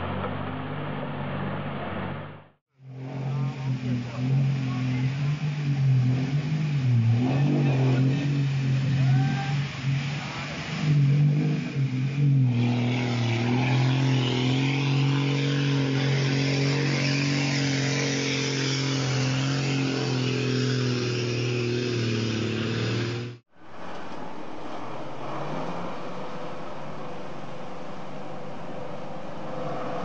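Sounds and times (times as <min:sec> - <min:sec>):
water splashing and rushing: 0:03.0 - 0:30.0.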